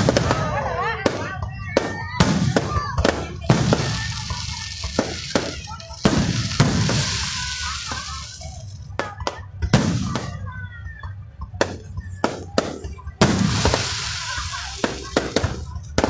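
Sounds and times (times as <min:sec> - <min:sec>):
fireworks bangs: 0:00.0 - 0:16.0
fireworks crackling hiss: 0:00.0 - 0:16.0
fireworks pops: 0:00.0 - 0:16.0.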